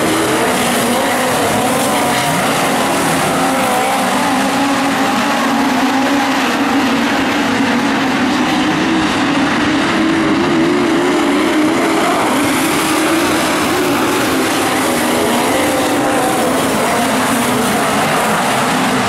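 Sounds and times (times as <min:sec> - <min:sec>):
constant wash of noise: 0:00.0 - 0:19.0
race car engines wavering: 0:00.0 - 0:19.0.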